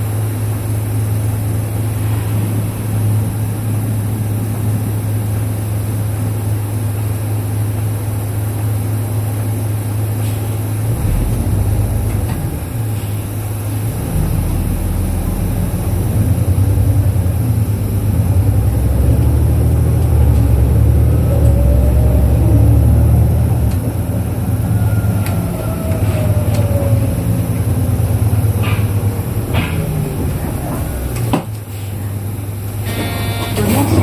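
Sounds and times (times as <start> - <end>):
bus diesel engine rumble: 0.0 - 34.0.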